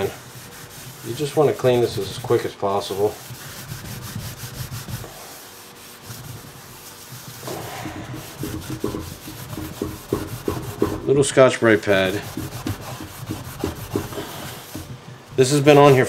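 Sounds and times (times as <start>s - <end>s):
scouring pad scrubbing a pan: 0.0s - 16.0s.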